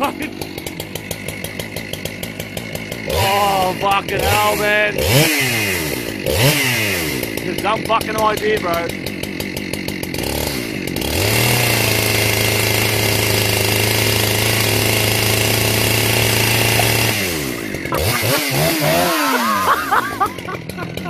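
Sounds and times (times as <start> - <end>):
small engine revving: 0.0 - 21.0.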